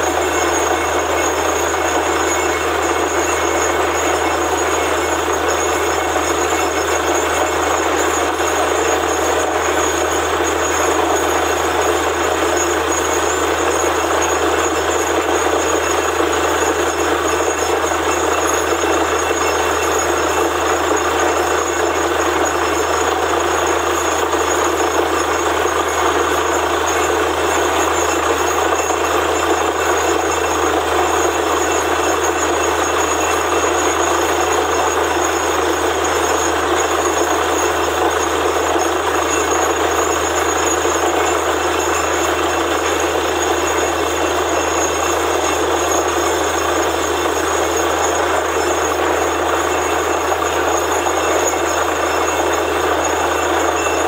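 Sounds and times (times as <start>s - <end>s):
constant high whine: 0.0s - 54.0s
drilling rig rumbling: 0.0s - 54.0s.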